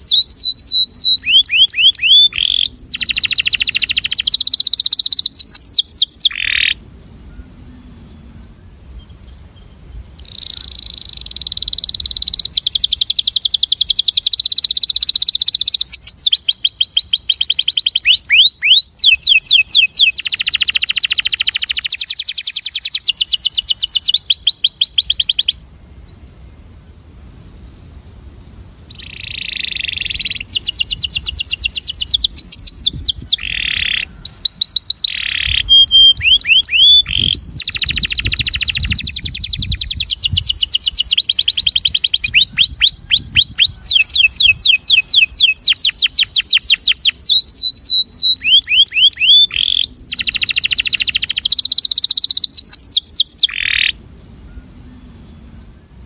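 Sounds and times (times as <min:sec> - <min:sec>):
canary singing trills: 0:00.0 - 0:25.6, 0:28.9 - 0:55.5.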